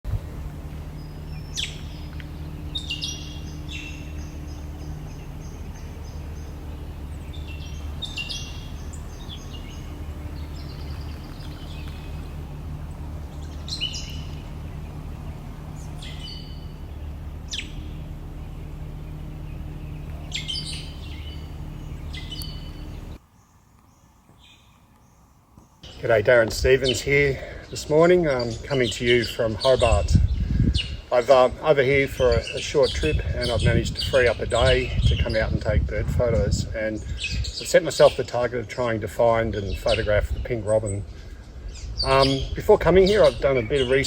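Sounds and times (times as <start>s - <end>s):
birds calling: 0.0s - 44.0s
steady low hum: 0.0s - 44.0s.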